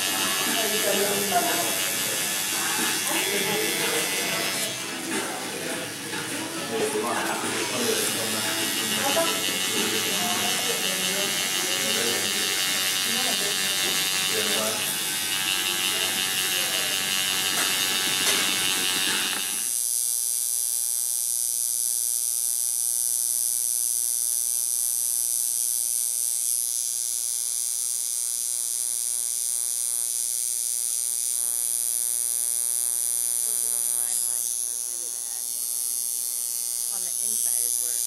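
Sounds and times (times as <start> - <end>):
tattoo machine buzzing: 0.0 - 38.0.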